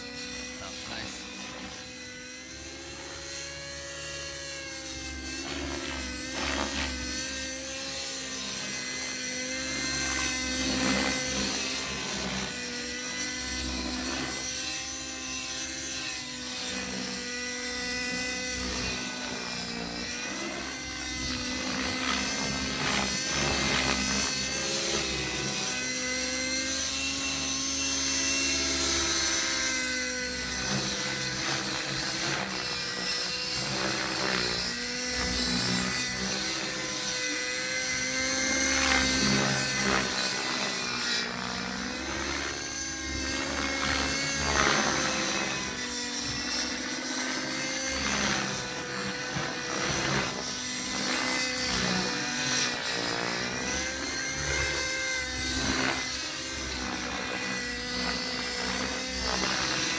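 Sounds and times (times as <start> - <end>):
model helicopter engine and rotor whine: 0.0 - 59.9.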